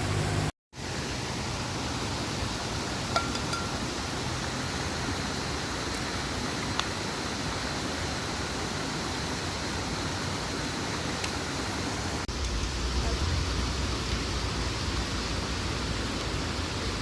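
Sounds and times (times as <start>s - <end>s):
flowing river water: 0.0s - 17.0s.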